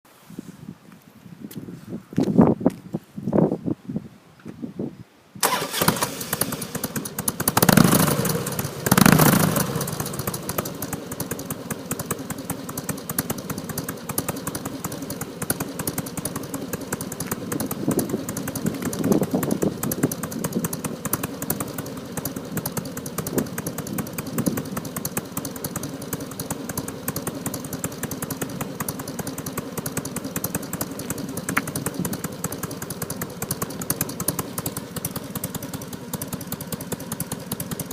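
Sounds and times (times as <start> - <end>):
motorcycle engine starting and idling: 5.4 - 37.9.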